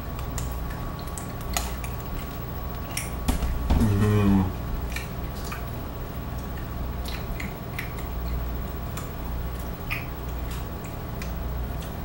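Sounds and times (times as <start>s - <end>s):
hard candy being chewed: 0.0s - 12.0s
steady low hum: 0.0s - 12.0s.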